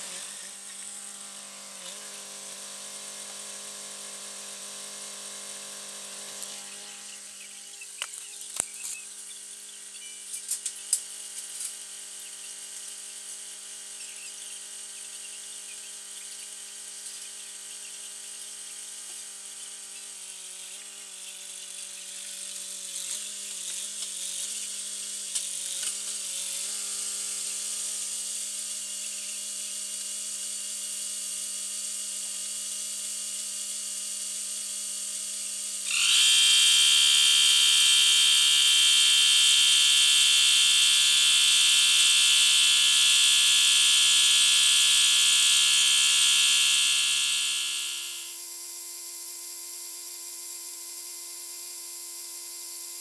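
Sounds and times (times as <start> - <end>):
air compressor motor running: 0.0 - 53.0
high-pitched machine buzz: 0.0 - 53.0.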